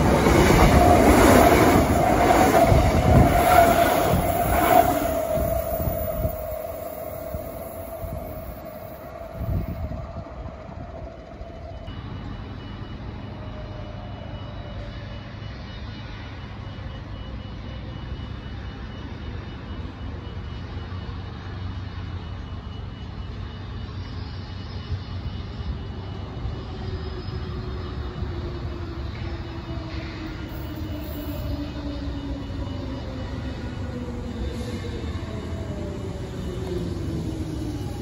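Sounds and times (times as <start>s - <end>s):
train motor whine: 0.0s - 38.0s
train rumble: 0.0s - 38.0s.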